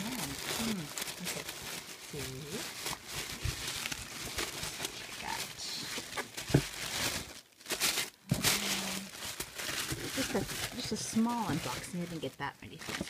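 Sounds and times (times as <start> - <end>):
tissue paper rustling: 0.0 - 13.0.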